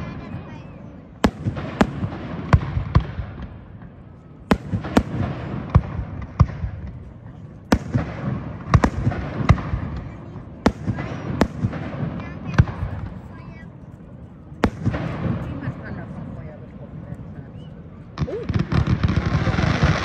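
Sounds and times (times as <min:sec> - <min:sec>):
distant fireworks bangs: 0:00.0 - 0:13.5, 0:14.6 - 0:16.8, 0:18.0 - 0:20.0.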